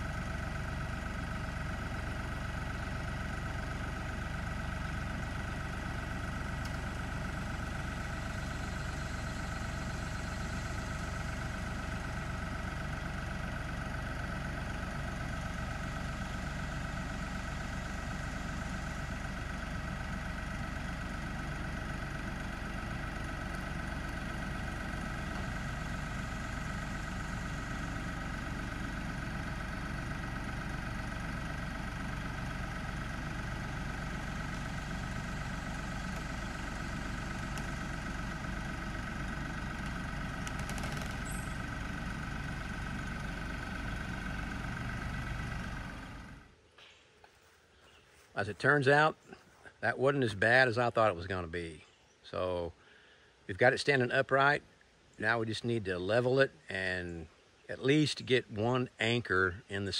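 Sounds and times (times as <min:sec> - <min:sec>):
tractor diesel engine running: 0:00.0 - 0:46.7, 0:47.3 - 0:51.7.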